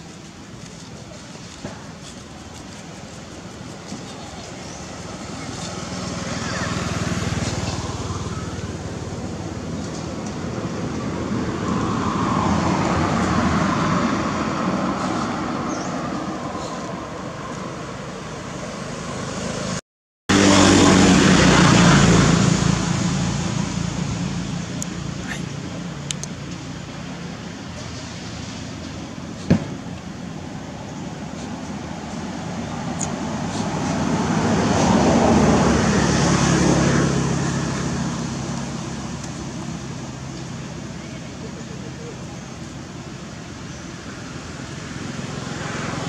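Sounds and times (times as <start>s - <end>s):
vehicle engine humming: 0.0s - 46.0s.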